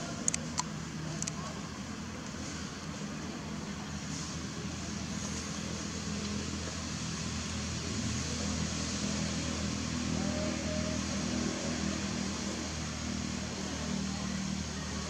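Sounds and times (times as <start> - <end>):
constant hiss: 0.0 - 15.0
low mechanical hum: 0.0 - 15.0.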